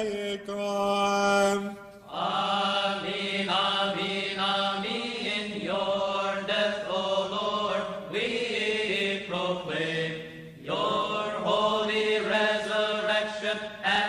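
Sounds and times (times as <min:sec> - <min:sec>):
congregation chanting: 0:00.0 - 0:14.0.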